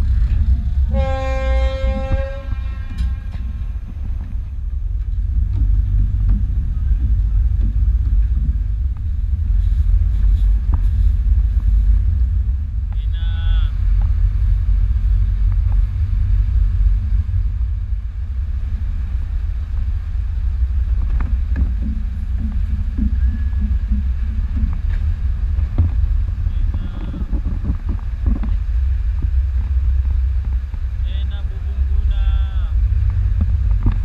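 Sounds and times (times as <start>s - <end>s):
ship engine rumble: 0.0s - 34.0s
wind buffeting microphone: 0.0s - 34.0s.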